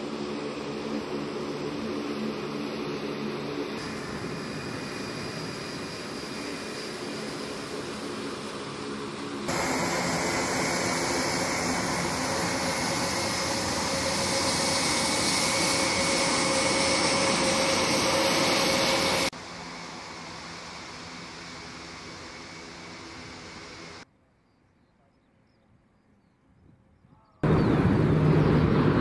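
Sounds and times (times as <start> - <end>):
turboprop aircraft taxiing past: 0.0 - 24.1, 27.4 - 29.0
turboprop engines hum: 0.0 - 24.1, 25.8 - 29.0.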